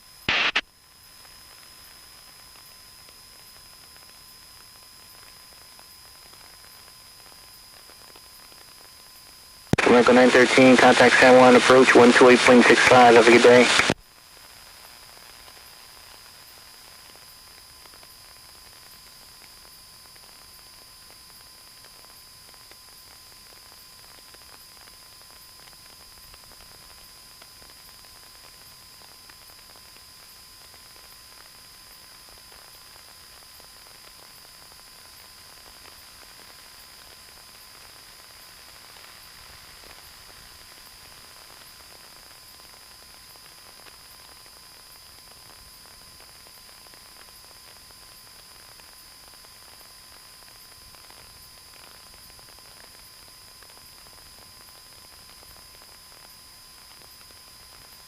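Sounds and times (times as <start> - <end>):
faint radio hiss: 0.0 - 58.0.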